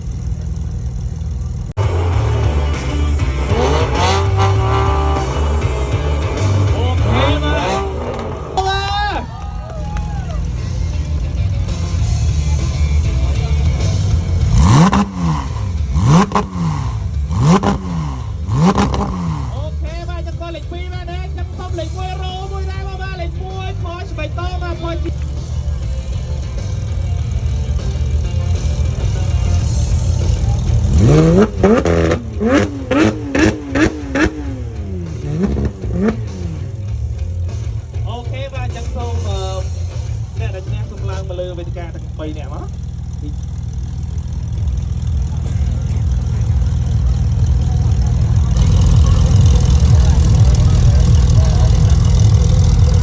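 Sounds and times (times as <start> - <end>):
car engine idling and revving: 0.0 - 53.0
exhaust cracks: 0.0 - 53.0.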